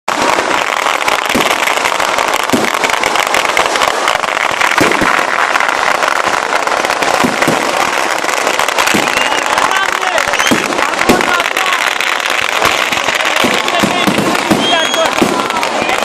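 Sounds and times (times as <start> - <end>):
firecrackers crackling: 0.1 - 16.0
heavy firework bangs: 0.1 - 16.0.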